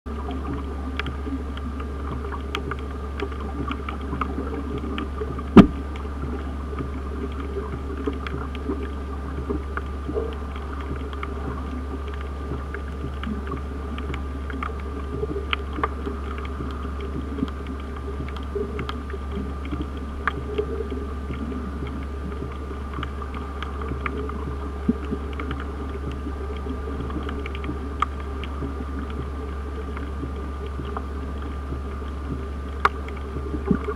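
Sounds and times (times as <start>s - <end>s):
small clicks and crackles: 0.1s - 33.9s
underwater low rumble: 0.1s - 33.9s.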